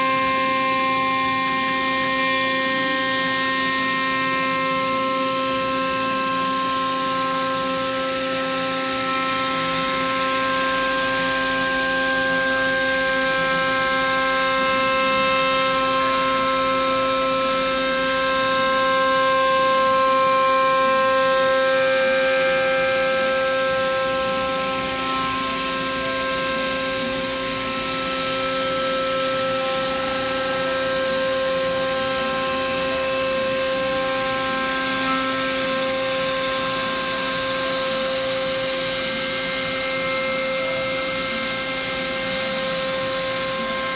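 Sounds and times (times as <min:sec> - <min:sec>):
router spindle whining: 0:00.0 - 0:43.9.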